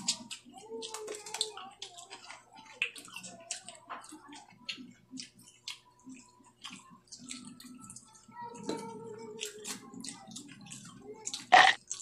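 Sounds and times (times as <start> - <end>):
people chewing crunchy food: 0.0 - 12.0.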